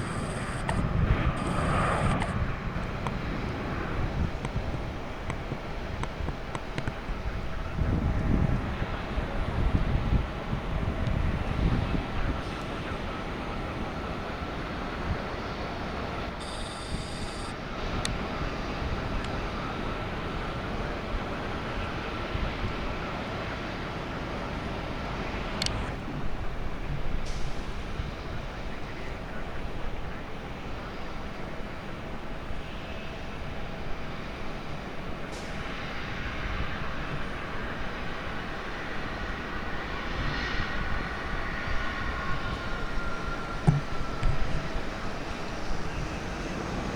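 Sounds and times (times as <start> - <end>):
jet airliner cabin hum: 0.0 - 46.9.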